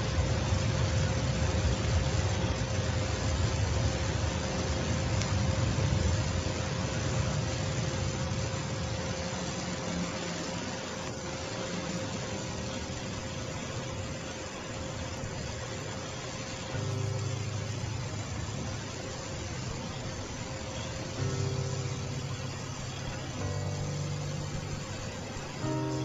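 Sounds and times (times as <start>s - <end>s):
even hiss: 0.0s - 26.0s
faint hum: 0.0s - 26.0s.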